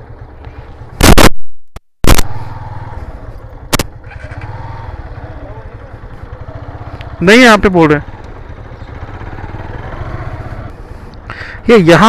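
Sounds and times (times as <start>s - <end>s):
motorcycle engine idling: 0.0s - 1.0s, 2.3s - 12.0s.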